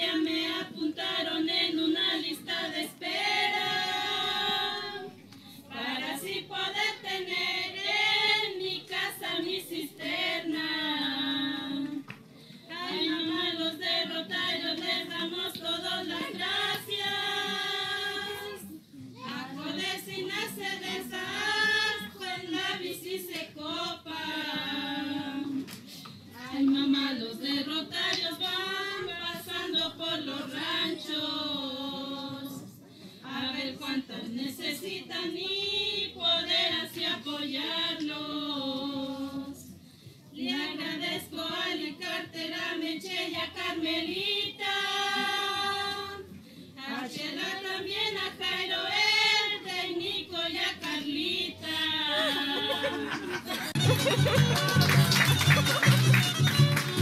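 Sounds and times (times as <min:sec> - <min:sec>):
women singing together: 0:00.0 - 0:55.3.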